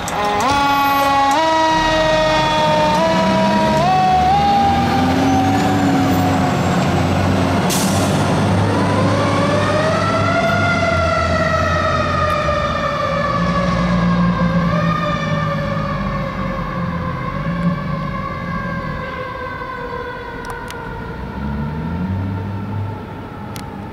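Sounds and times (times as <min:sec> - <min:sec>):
mechanical siren wailing: 0:00.0 - 0:07.2, 0:08.5 - 0:23.8.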